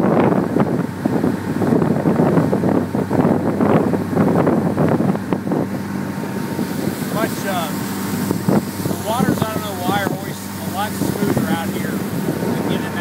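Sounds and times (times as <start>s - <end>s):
boat engine hum: 0.0s - 13.0s
hull rushing through water: 0.0s - 13.0s
wind buffeting microphone: 0.0s - 13.0s.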